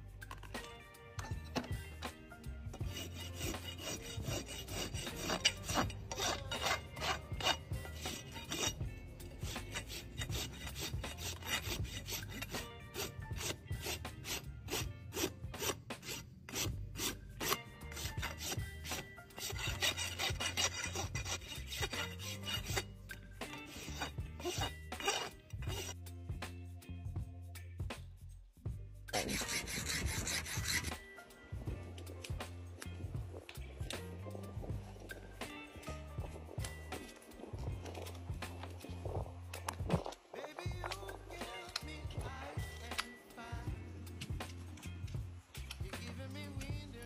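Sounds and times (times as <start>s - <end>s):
hoof rasp scraping hoof: 0.2s - 26.0s, 29.1s - 43.3s.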